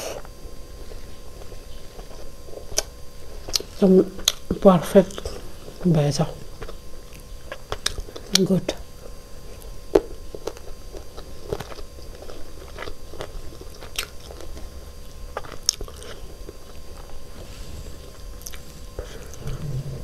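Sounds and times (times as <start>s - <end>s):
person chewing food: 0.0s - 4.5s, 6.6s - 8.4s, 9.0s - 20.0s.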